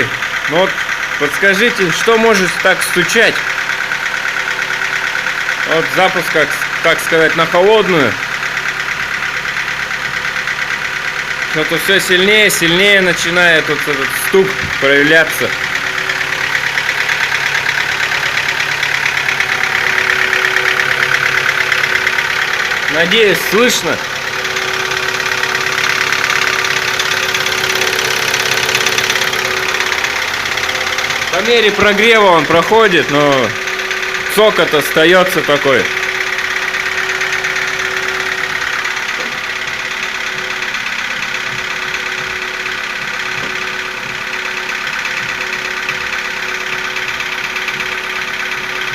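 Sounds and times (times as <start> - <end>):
engine running with knocking: 0.0 - 48.9.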